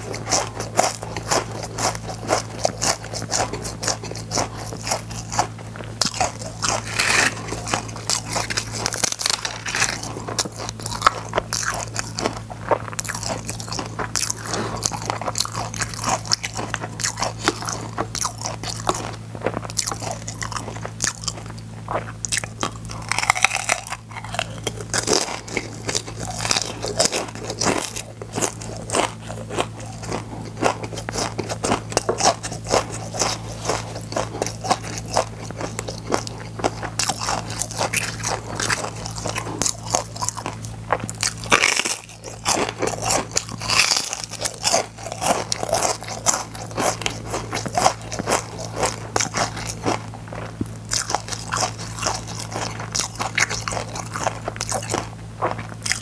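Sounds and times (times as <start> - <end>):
crunching and chewing crisps: 0.0 - 56.0.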